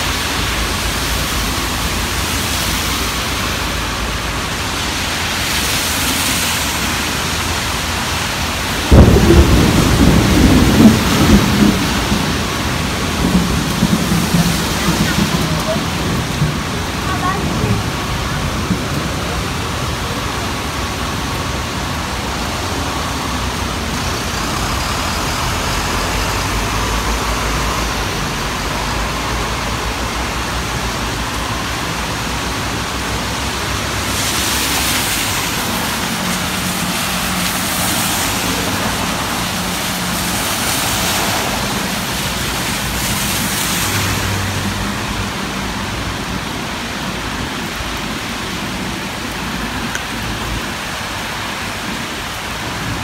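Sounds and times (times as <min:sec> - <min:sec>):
tyre hiss on wet road: 0:00.0 - 0:53.0
heavy vehicle engine running low: 0:06.0 - 0:50.3.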